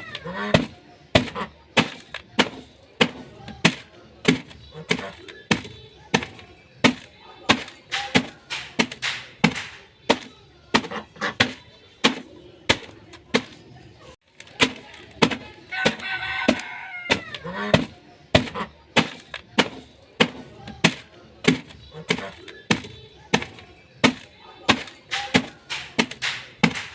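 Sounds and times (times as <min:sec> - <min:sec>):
hard bread snapping: 0:00.0 - 0:13.6, 0:14.3 - 0:26.9.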